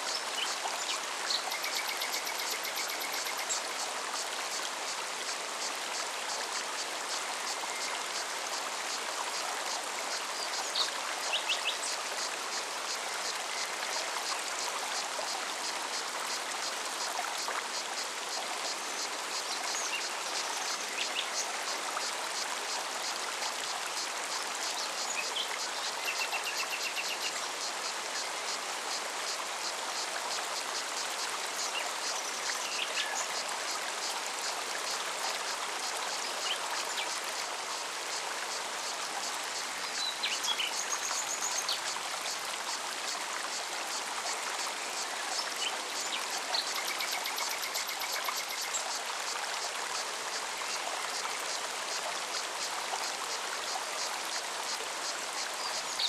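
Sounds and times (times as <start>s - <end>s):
stream running: 0.0s - 56.0s.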